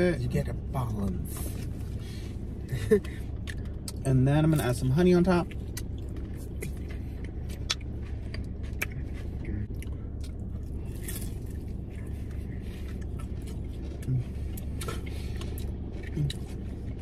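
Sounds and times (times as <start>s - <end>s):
steady low hum in car: 0.0s - 17.0s
crunchy chewing: 3.0s - 17.0s.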